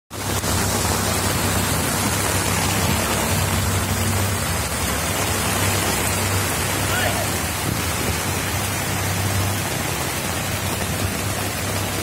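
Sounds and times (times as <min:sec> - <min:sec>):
heavy rain hissing: 0:00.1 - 0:12.0.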